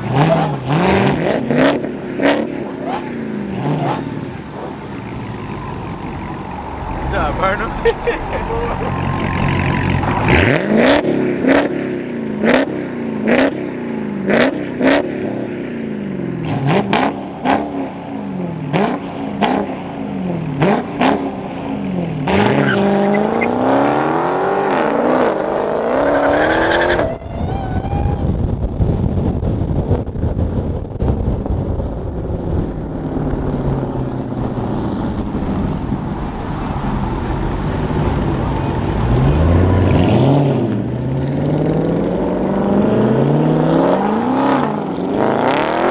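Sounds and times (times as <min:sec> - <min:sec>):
engine revving: 0:00.0 - 0:15.5, 0:16.4 - 0:28.2, 0:34.4 - 0:45.9
engine low rumble: 0:00.0 - 0:23.7, 0:26.5 - 0:45.2.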